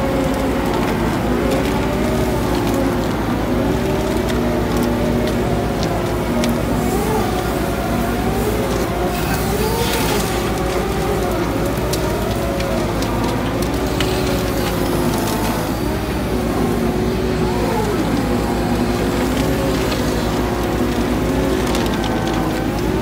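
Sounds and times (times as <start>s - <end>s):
shredder engine running: 0.0s - 23.0s
wood cracking and snapping: 0.0s - 23.0s.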